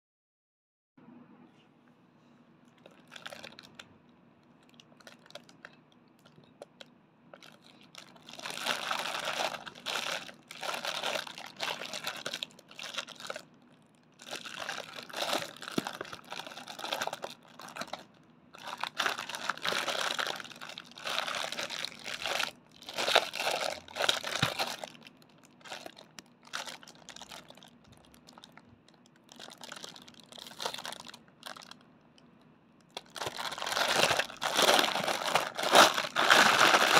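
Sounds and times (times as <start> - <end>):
plastic bag crinkling: 2.8 - 3.8, 4.6 - 6.8, 7.4 - 31.8, 32.9 - 36.9.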